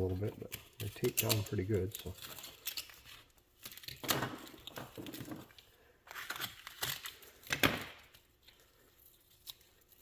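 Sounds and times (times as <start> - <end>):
cardboard and tape tearing: 0.0 - 8.2.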